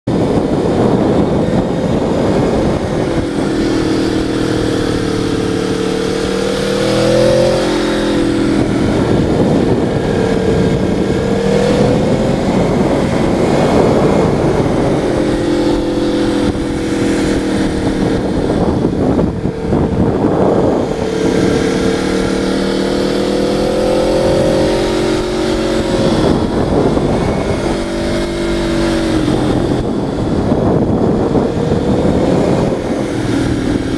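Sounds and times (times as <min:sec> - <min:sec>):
vehicle engine revving: 0:00.0 - 0:33.9
wind noise: 0:00.0 - 0:33.9.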